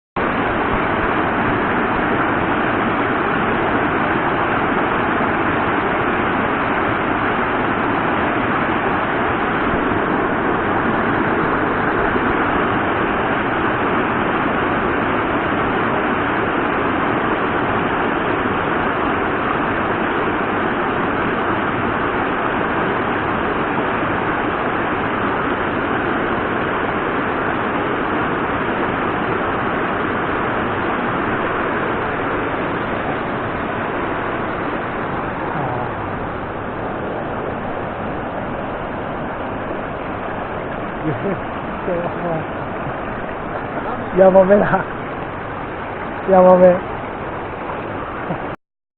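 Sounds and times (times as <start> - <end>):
stream water rushing: 0.2 - 48.6.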